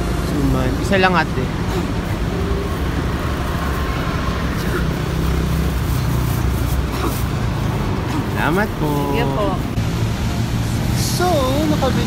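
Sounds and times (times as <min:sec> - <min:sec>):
engine hum: 0:00.0 - 0:12.0
road traffic: 0:00.0 - 0:12.0.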